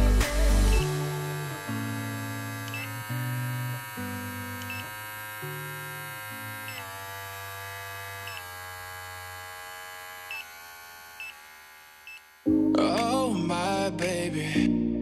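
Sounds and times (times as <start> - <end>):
beard trimmer motor humming: 0.0 - 12.6.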